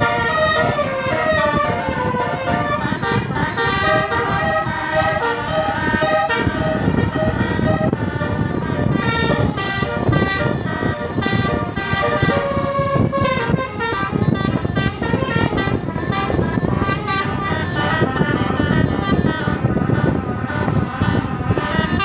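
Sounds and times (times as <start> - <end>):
engine and road rumble: 0.0 - 22.0
vehicle horns honking: 0.0 - 22.0.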